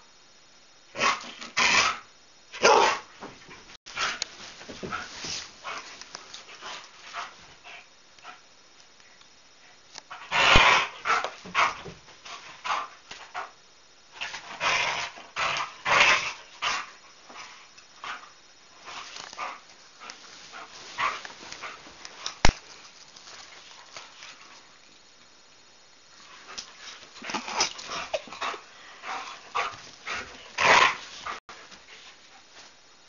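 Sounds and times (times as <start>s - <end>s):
dogs playing rough: 1.0s - 8.5s, 10.1s - 24.8s, 26.2s - 32.7s.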